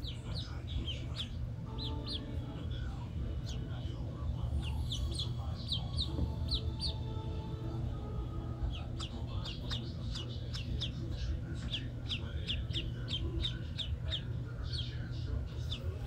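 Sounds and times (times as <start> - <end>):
ducklings peeping: 0.0 - 16.0
steady low hum: 0.0 - 16.0.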